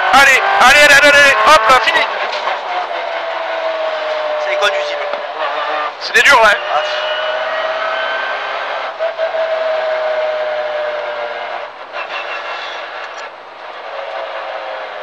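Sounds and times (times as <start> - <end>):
car engine whining: 0.0 - 15.0
road noise: 0.0 - 15.0.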